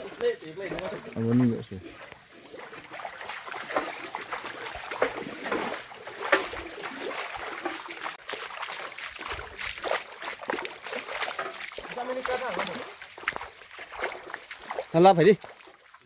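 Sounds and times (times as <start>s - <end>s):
trickling water: 0.0s - 16.0s
water splashing and sloshing: 0.0s - 16.0s.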